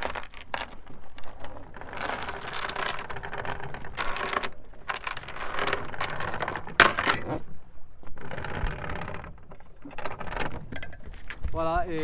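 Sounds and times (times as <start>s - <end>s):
anchor chain rattling: 0.0s - 11.4s.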